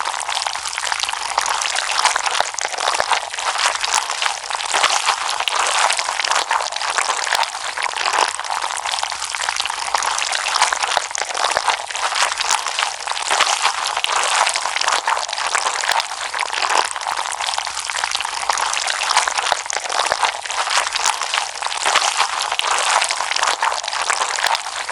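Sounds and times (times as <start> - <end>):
slime squeezed wet crackling: 0.0 - 24.9.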